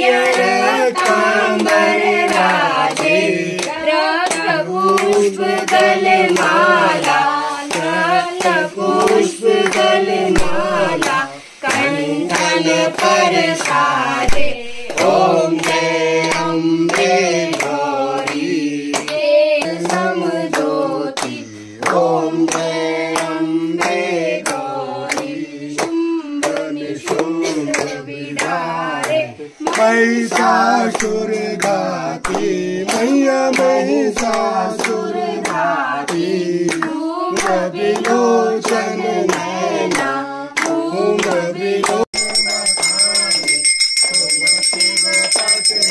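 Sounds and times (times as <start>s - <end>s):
group singing devotional song: 0.0s - 45.9s
hands clapping a steady beat: 0.0s - 45.9s.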